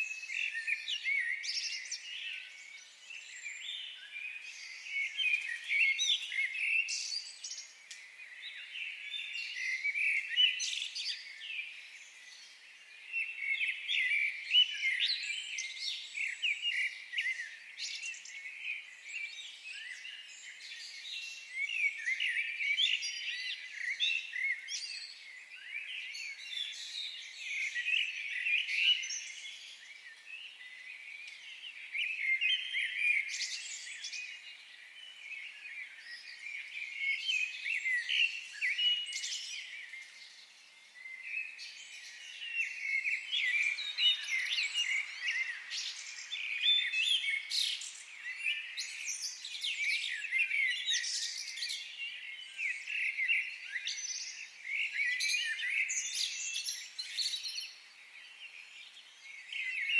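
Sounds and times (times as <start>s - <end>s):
songbirds chirping and warbling: 0.0s - 59.9s.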